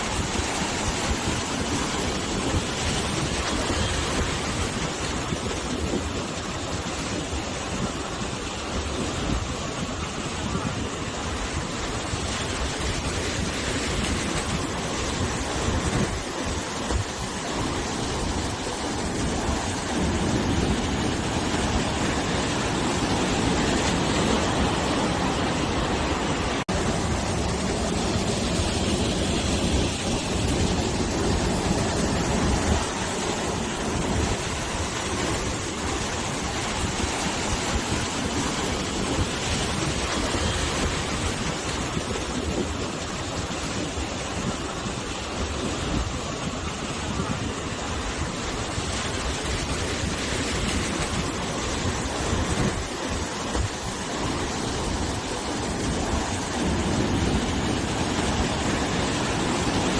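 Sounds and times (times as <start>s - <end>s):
sea waves washing onto shore: 0.0s - 59.9s
wind blowing over microphone: 0.0s - 59.9s.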